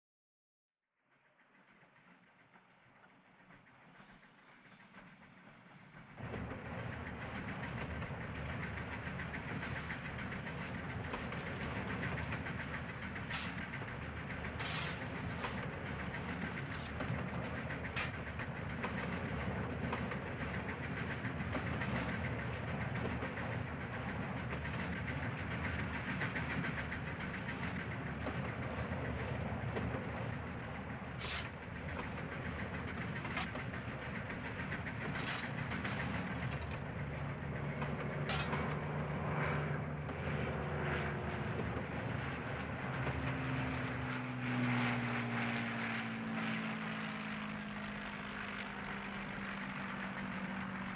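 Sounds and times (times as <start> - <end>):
steam locomotive rattle and clatter: 1.3 - 50.9.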